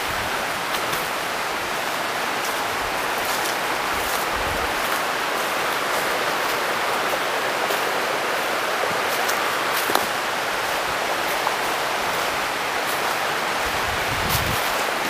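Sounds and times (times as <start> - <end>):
stream rushing: 0.0 - 15.0.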